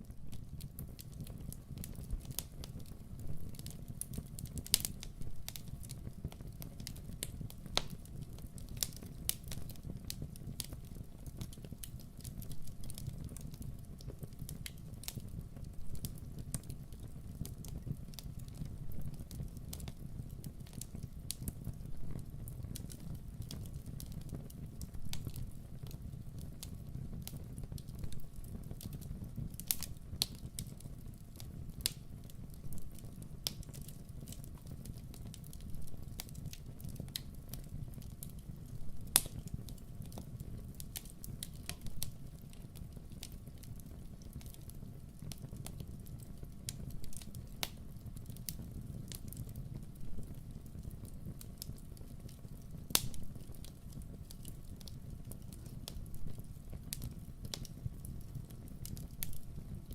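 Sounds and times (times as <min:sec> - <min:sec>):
campfire crackling and popping: 0:00.0 - 0:59.9
low rumble of flames: 0:00.0 - 0:59.9.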